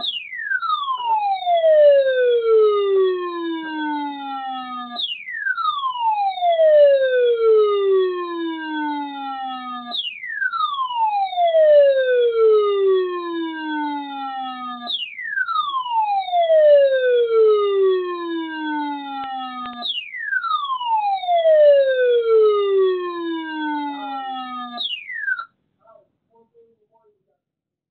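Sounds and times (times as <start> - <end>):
falling electronic siren tone: 0.0 - 25.5.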